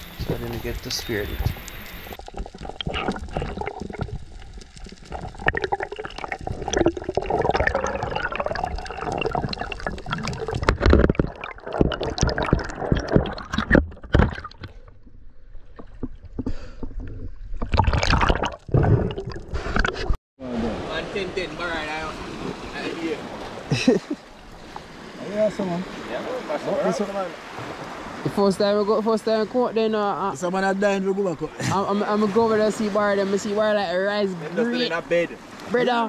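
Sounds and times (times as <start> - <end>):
water gurgling and splashing: 0.0 - 36.0.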